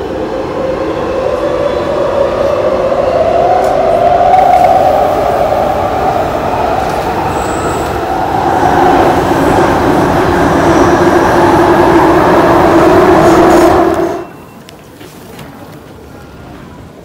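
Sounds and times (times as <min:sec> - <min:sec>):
passenger train running on track: 0:00.0 - 0:17.0.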